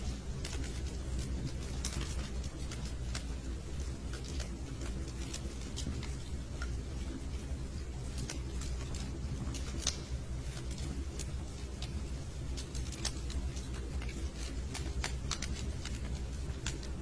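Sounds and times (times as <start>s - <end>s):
log fire crackling: 0.0s - 17.0s
low rumble of fire: 0.0s - 17.0s.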